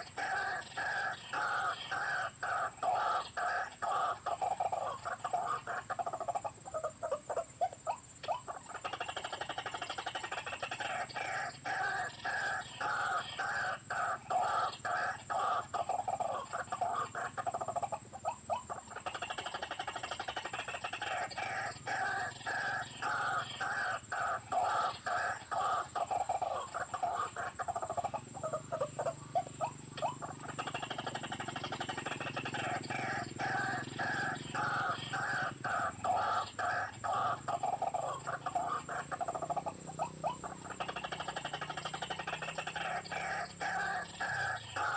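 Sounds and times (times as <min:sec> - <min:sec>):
electronic bird caller calls: 0:00.0 - 0:44.9.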